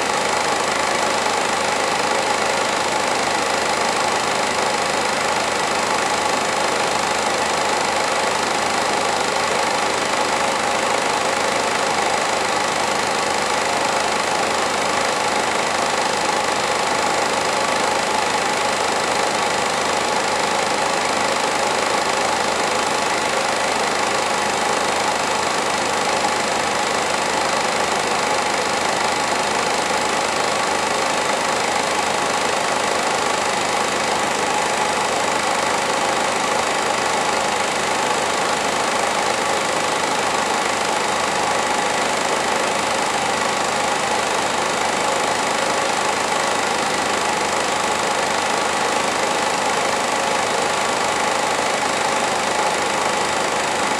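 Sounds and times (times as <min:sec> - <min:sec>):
film projector whirring: 0:00.0 - 0:53.9.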